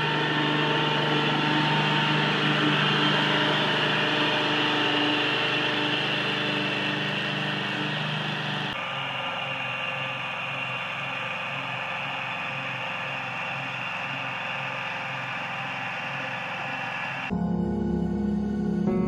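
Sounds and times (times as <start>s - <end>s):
garden tractor engine running: 0.0s - 17.3s.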